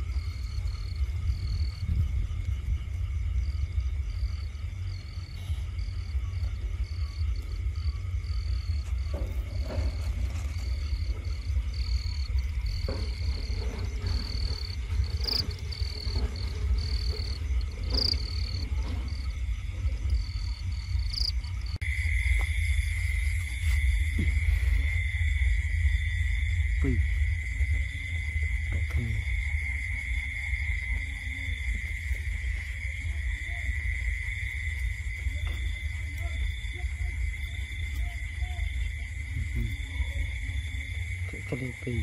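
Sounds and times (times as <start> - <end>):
high insect drone: 0.0 - 42.0
insect chirping: 0.0 - 42.0
low rumble: 0.0 - 42.0.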